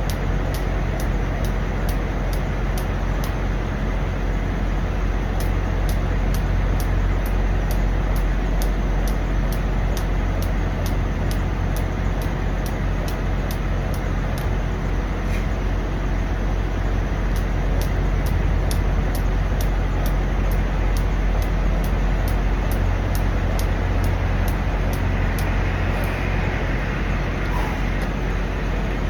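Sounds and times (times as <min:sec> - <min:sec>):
high regular ticking: 0:00.0 - 0:03.9, 0:04.9 - 0:15.0, 0:16.6 - 0:29.0
diesel truck engine idling: 0:00.0 - 0:29.0.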